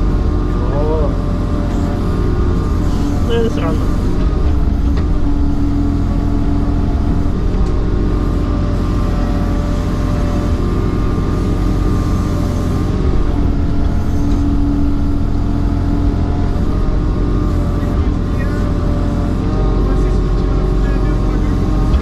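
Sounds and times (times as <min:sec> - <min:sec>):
diesel engine running: 0:00.0 - 0:22.0
hydraulic whining tone: 0:00.0 - 0:22.0.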